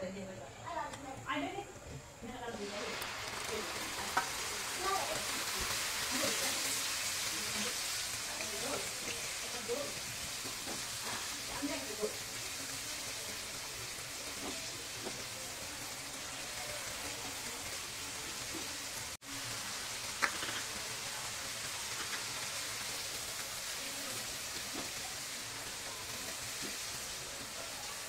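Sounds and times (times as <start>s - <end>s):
onion sizzling in hot oil: 2.2s - 28.0s.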